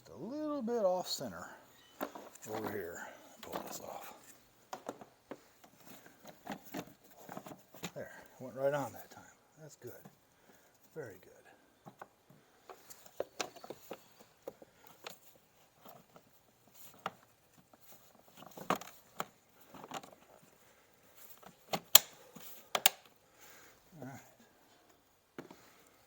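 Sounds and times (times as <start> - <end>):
light clicks and knocks of parts: 1.8 - 26.0.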